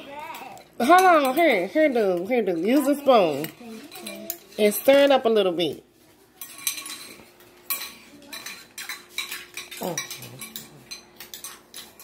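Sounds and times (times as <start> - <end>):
metal spoons clinking against bowls: 0.2 - 12.0.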